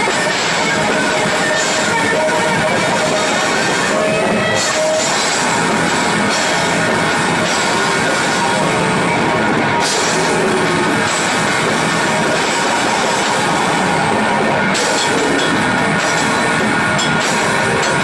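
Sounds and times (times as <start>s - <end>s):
distorted electric guitars: 0.0s - 18.0s
drums and cymbals: 0.0s - 18.0s.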